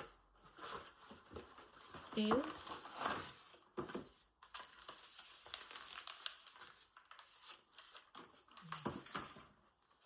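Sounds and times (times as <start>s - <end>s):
cardboard packaging crinkling and tearing: 0.0s - 10.0s.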